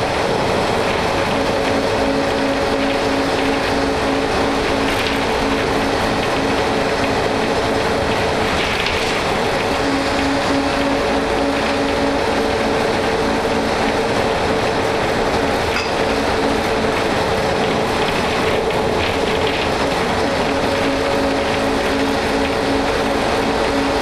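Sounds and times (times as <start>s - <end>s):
bus diesel engine drone: 0.0s - 24.0s
road rumble: 0.0s - 24.0s.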